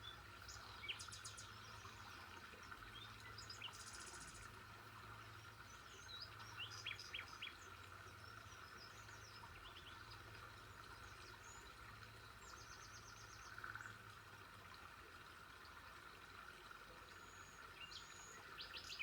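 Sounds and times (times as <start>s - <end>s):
faint birdsong chirps and trills: 0.0s - 14.2s, 16.8s - 19.0s.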